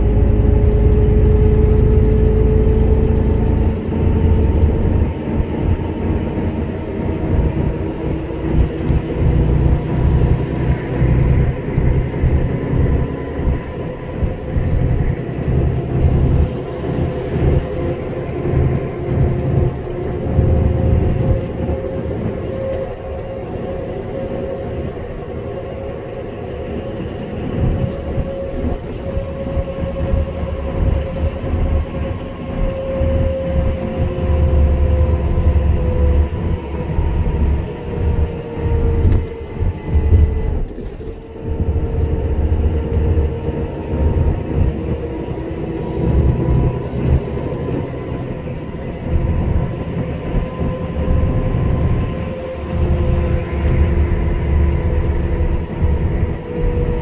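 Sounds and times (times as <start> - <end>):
tyres rumbling on road: 0.0 - 57.0
whine drifting in pitch: 0.0 - 57.0.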